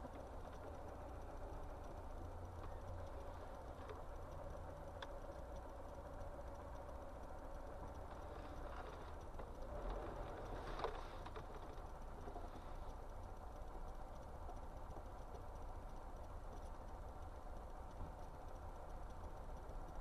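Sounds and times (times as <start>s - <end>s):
car driving rumble: 0.0s - 20.0s
faint clicks: 0.0s - 20.0s.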